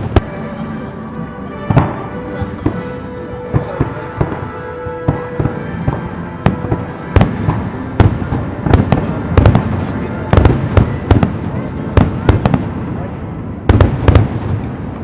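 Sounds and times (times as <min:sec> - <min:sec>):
fireworks bangs: 0:00.0 - 0:00.6, 0:01.6 - 0:15.0.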